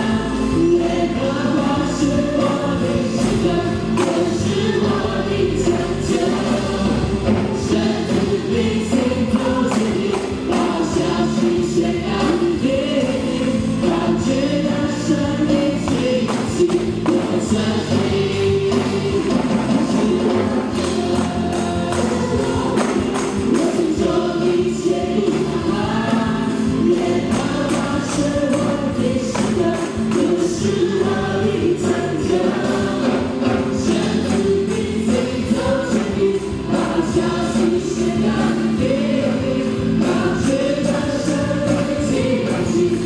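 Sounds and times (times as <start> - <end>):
live band with percussion beat: 0.0 - 43.0
mixed voices singing praise song: 0.0 - 43.0.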